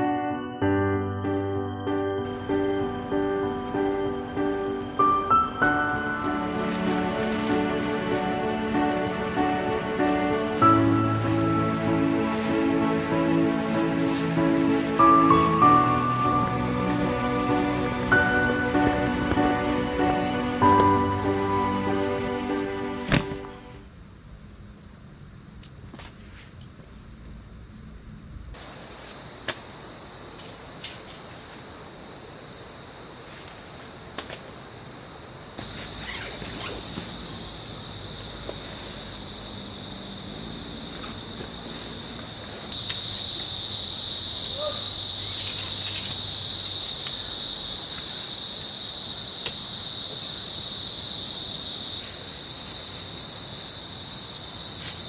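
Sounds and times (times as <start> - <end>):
insects shrilling: 2.2 - 23.0, 28.6 - 55.0.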